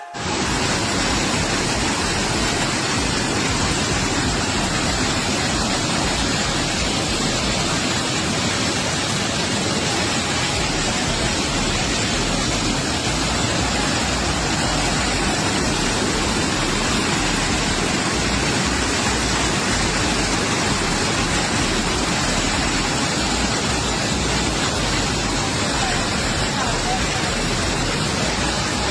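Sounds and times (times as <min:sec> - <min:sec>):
waterfall crashing: 0:00.0 - 0:28.9.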